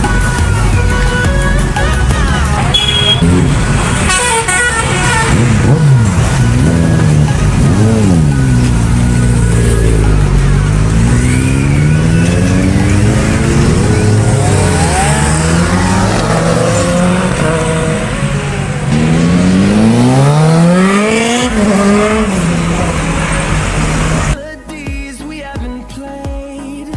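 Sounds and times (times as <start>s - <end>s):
motorcycle engines revving: 0.0s - 24.4s.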